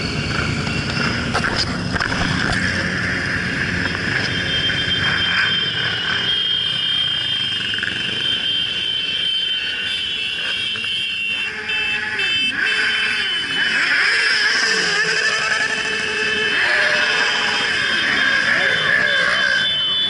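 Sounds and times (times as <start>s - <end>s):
motorcycles riding past: 0.0s - 9.6s, 10.2s - 20.0s.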